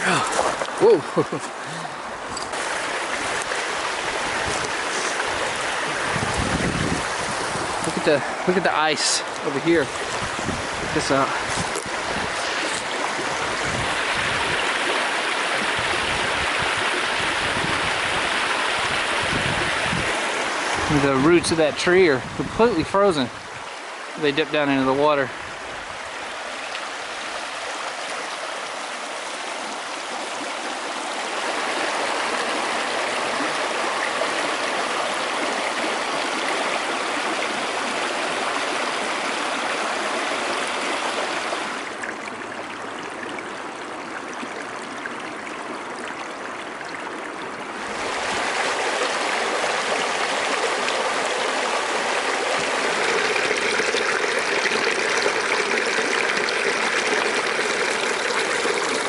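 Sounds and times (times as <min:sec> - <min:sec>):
creek trickling over rocks: 0:00.0 - 0:59.0.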